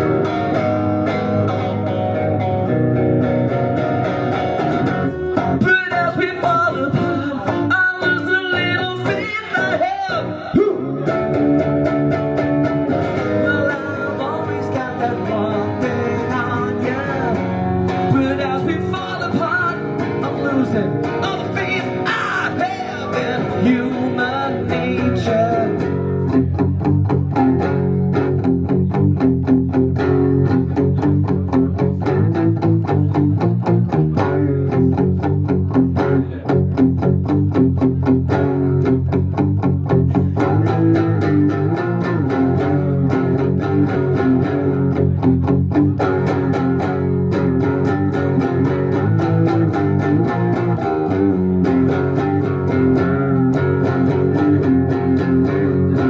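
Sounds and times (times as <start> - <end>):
guitar melody: 0.0 - 56.0
rock band playing: 0.0 - 56.0
strummed guitar chords: 0.0 - 56.0.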